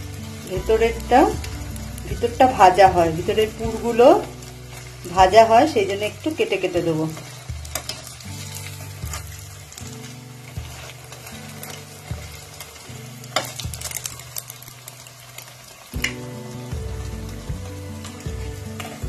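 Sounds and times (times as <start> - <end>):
hot oil sizzling: 0.0 - 19.0
soft background music: 0.0 - 19.0.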